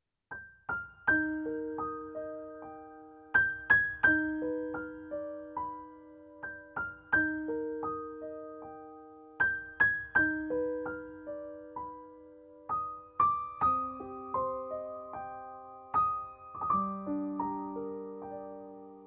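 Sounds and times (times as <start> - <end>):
gentle solo piano melody: 0.3 - 19.0.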